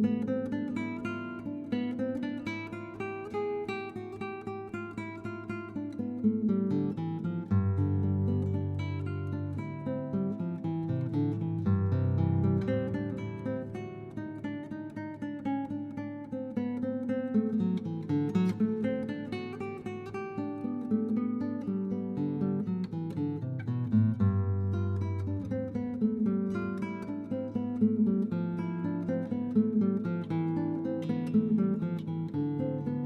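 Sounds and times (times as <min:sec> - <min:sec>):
acoustic guitar plucking and strumming: 0:00.0 - 0:33.0.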